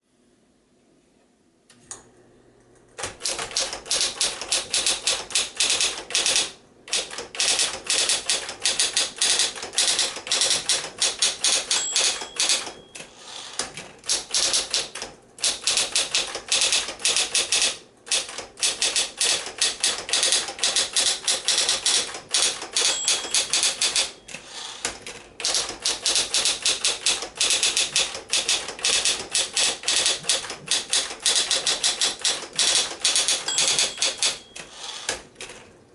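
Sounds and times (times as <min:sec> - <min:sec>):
electric typewriter typing: 0:03.0 - 0:35.7.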